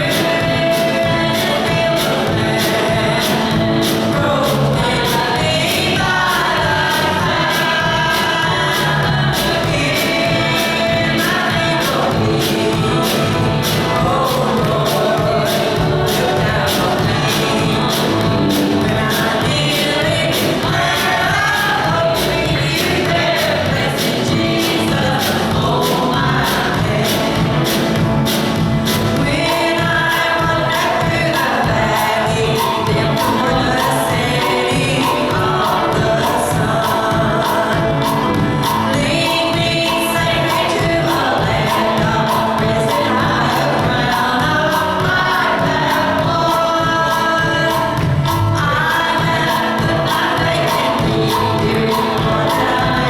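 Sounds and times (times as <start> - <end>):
congregation singing a hymn: 0.0 - 53.0
instrumental accompaniment with beat: 0.0 - 53.0.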